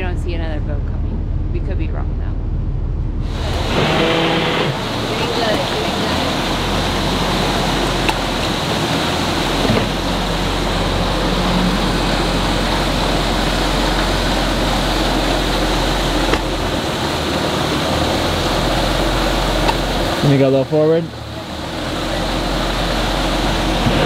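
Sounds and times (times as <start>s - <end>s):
boat engine idling: 0.0s - 24.0s
rushing noise: 2.4s - 24.0s.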